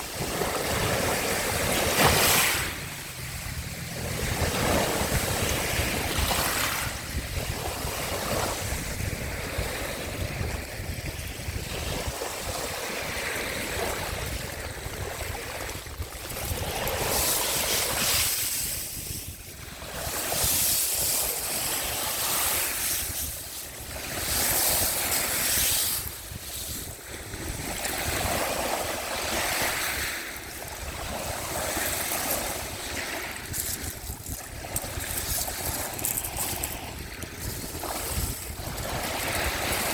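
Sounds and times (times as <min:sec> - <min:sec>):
sea waves washing onto shore: 0:00.0 - 0:39.9
wind rumble on microphone: 0:00.0 - 0:39.9.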